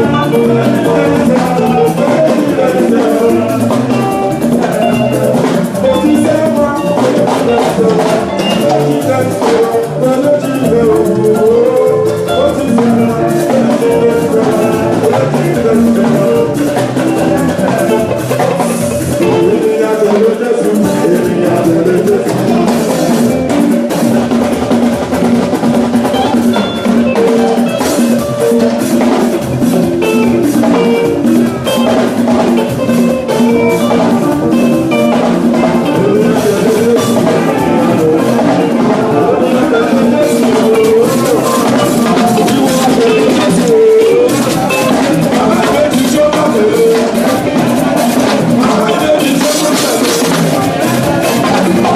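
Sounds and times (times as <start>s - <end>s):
drum kit beat: 0.0s - 51.9s
instruments playing a melody: 0.0s - 51.9s.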